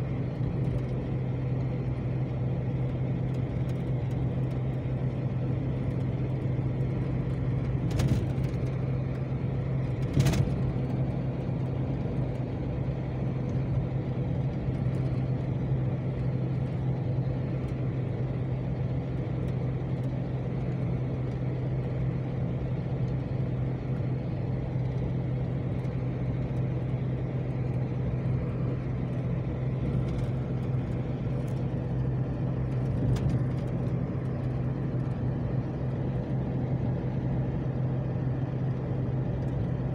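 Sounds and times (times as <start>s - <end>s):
vehicle engine hum: 0.0s - 39.9s.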